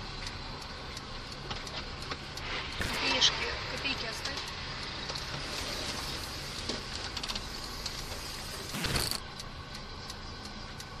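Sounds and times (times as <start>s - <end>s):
car cabin engine and road hum: 0.0s - 11.0s.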